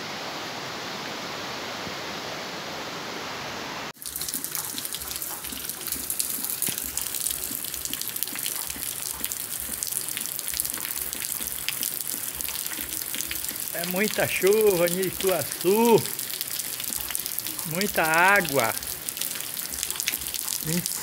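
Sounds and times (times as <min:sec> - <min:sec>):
rushing water: 0:00.0 - 0:21.0
heavy rain on wet street: 0:03.0 - 0:21.0.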